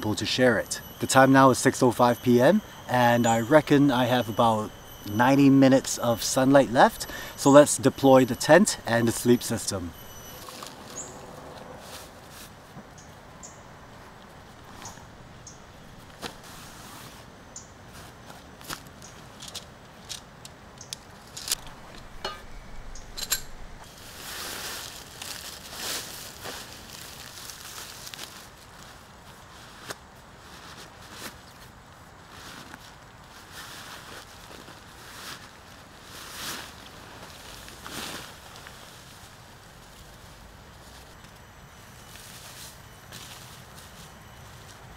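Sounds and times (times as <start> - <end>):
tent groundsheet rustling on leaves: 0.1 - 20.4, 21.0 - 44.9
camping gear clicks and rustles: 1.8 - 44.9.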